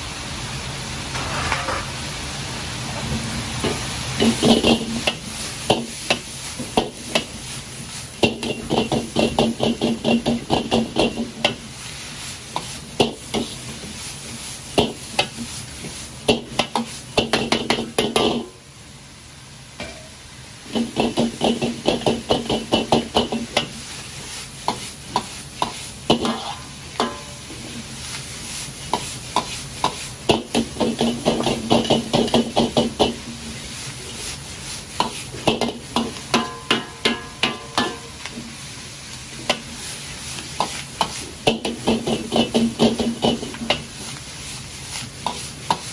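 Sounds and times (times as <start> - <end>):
food sizzling: 0.0 - 45.9
ladle scraping and clanking wok: 1.1 - 2.1, 3.0 - 18.6, 19.8 - 45.9.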